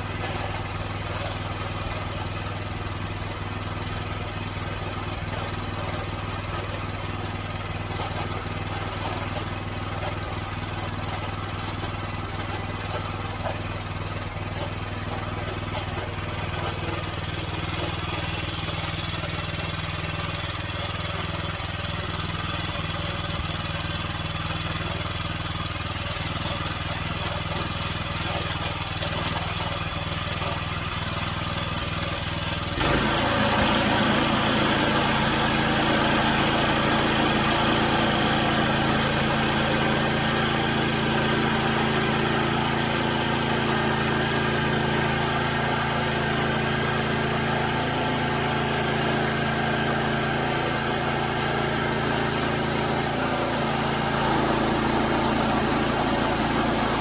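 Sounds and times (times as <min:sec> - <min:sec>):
gas engine running: 0:00.0 - 0:57.0.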